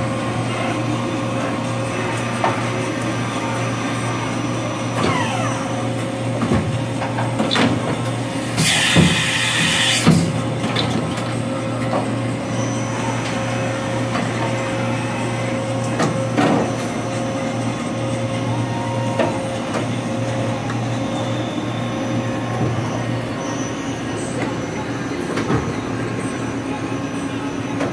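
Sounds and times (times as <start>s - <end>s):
machine-shop hum: 0.0s - 27.9s.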